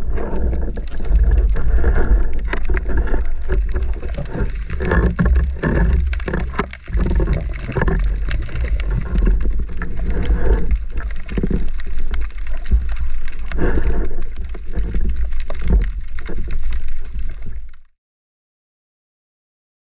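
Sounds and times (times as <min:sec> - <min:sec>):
small crackling clicks: 0:00.0 - 0:17.9
water sloshing and bubbling: 0:00.0 - 0:17.9.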